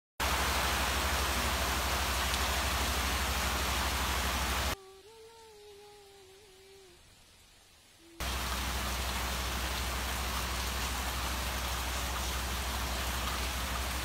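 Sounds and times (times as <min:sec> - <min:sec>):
heavy rain hiss: 0:00.2 - 0:14.0.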